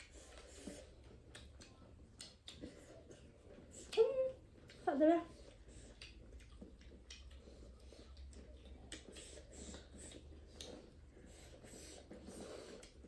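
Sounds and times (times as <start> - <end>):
chewing clicks and smacks: 0.0 - 13.0.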